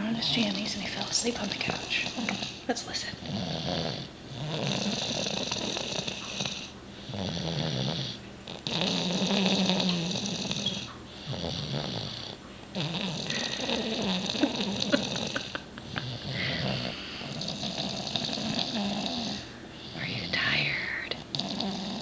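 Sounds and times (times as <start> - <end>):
person snoring: 3.2 - 22.0.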